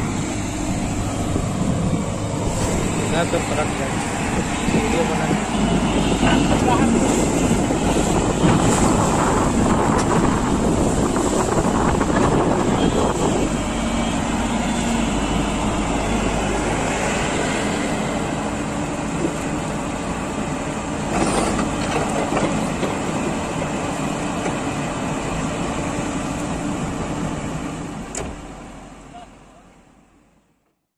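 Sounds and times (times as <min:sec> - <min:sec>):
excavator diesel engine: 0:00.0 - 0:30.5.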